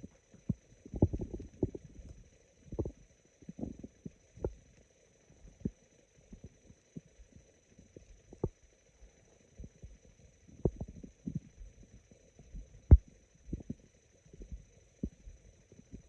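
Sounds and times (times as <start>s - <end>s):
stomach gurgling: 0.0s - 16.0s.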